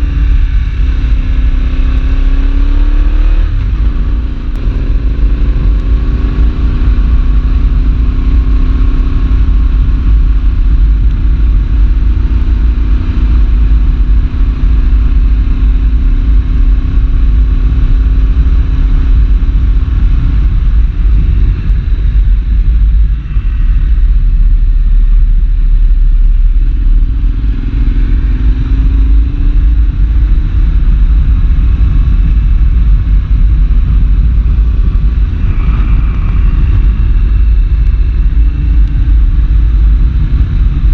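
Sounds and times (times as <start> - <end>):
low wind rumble: 0.0 - 40.9
motorcycle engine running: 0.0 - 40.9.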